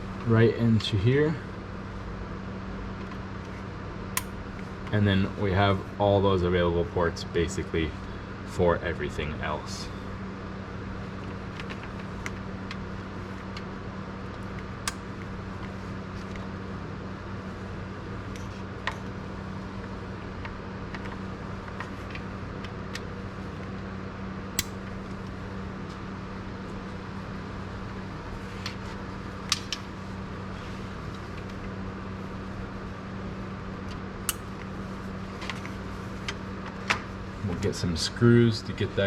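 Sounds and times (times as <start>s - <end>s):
cooling fans humming: 0.0s - 39.0s.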